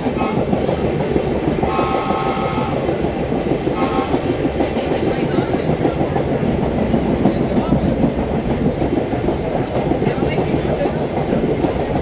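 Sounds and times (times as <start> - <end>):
subway train rumbling on rails: 0.0 - 12.0.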